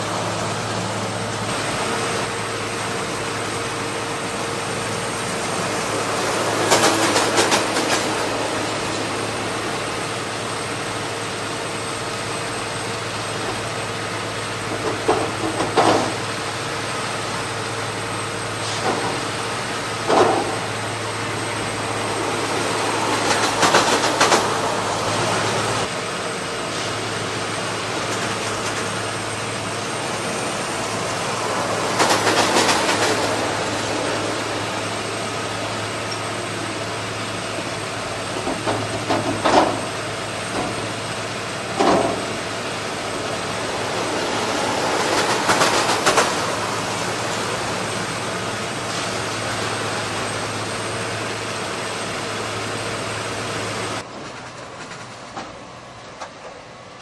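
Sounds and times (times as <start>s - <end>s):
rail machine engine hum: 0.0s - 57.0s
rolling rail noise: 0.0s - 57.0s.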